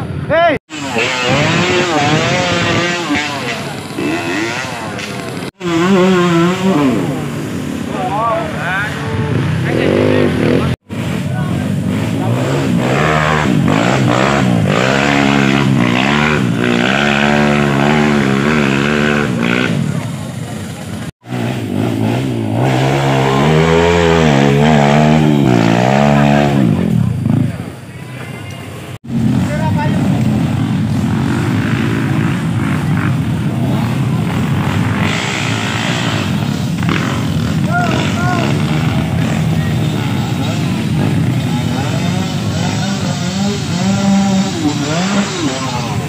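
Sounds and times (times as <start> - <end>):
dirt bike engine revving: 0.6 - 27.8, 29.0 - 46.0.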